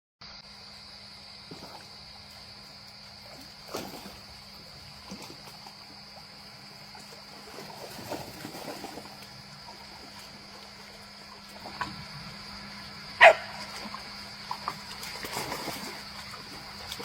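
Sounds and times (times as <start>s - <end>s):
steady electrical hum: 0.3s - 17.0s.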